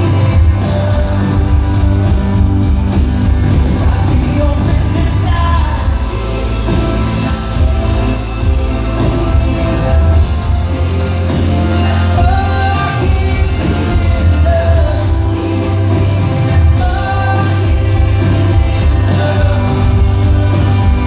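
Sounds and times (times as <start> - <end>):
heavy bass: 0.0 - 21.0
live pop band playing: 0.0 - 21.0
man singing lead vocal: 0.0 - 21.0.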